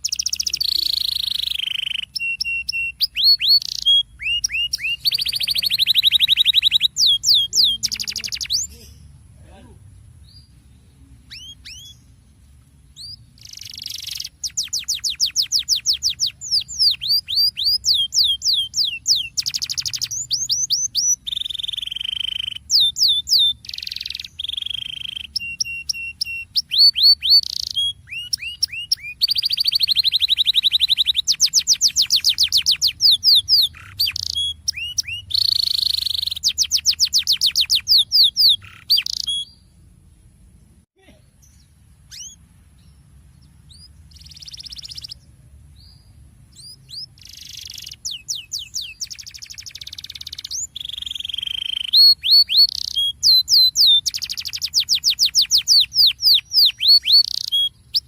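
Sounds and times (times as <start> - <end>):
canary singing trills: 0.0 - 39.8, 41.3 - 58.0.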